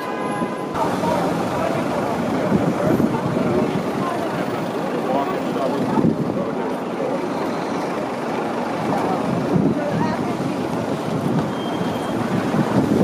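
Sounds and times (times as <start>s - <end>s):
traffic noise: 0.0s - 13.0s
voices of passing people: 0.0s - 13.0s.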